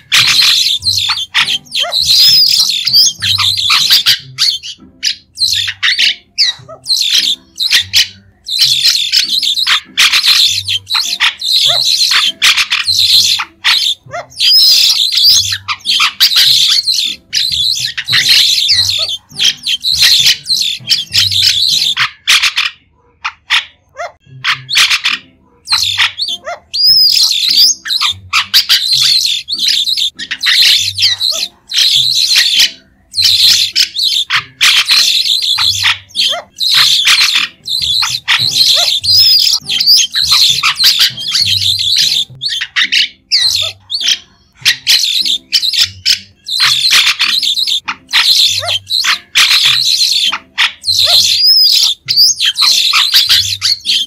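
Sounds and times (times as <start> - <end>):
starling chattering calls: 0.0 - 23.8, 24.4 - 54.0.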